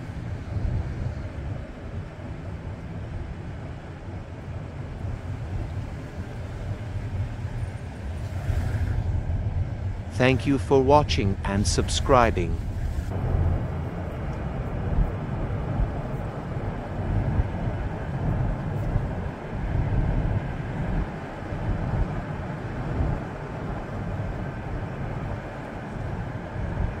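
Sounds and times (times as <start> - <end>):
vehicle driving on road: 0.0 - 27.0.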